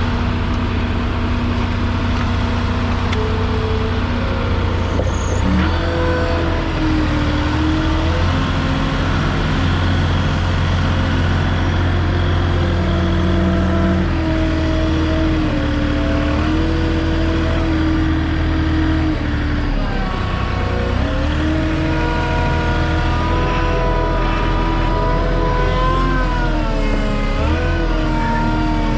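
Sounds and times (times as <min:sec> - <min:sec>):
forklift engine running under load: 0:00.0 - 0:28.9.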